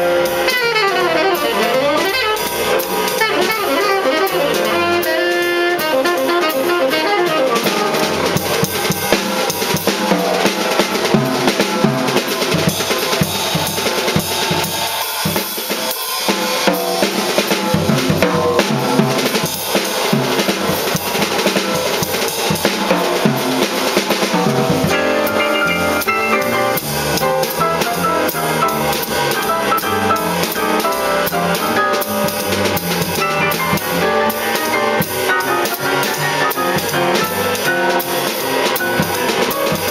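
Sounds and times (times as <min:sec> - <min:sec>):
bass: 0:00.0 - 0:39.9
drum kit playing: 0:00.0 - 0:39.9
jazz band playing: 0:00.0 - 0:39.9
piano: 0:00.0 - 0:39.9.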